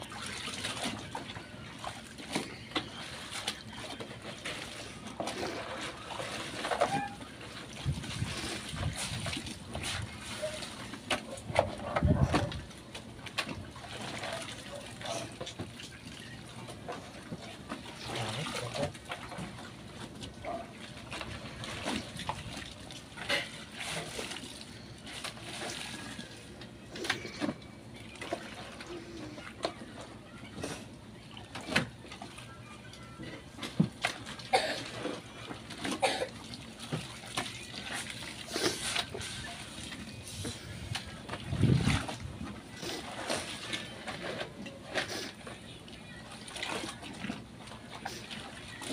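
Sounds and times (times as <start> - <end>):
water sloshing in basin: 0.0 - 48.9.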